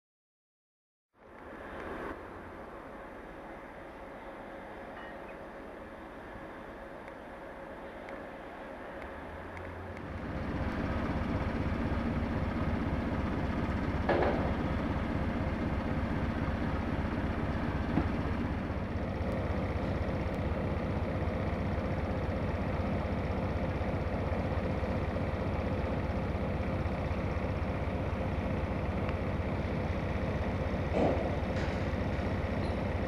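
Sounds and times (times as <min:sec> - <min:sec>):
diesel locomotive engine rumbling: 0:01.2 - 0:33.0.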